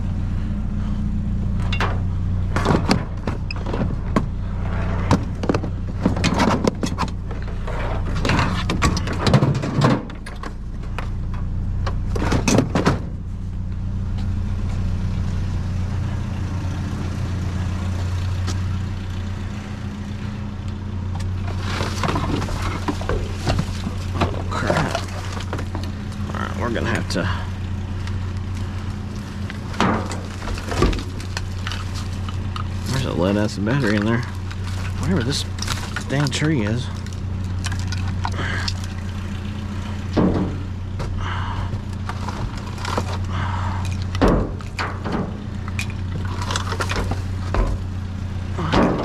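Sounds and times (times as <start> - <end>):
vehicle engine idling: 0.0 - 49.0
junk clattering: 1.5 - 14.8, 20.6 - 49.0.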